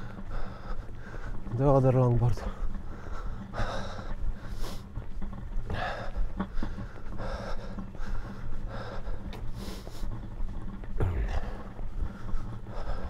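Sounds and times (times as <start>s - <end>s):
man breathing heavily: 0.0s - 1.5s, 2.4s - 13.0s
low steady rumble: 0.0s - 13.0s.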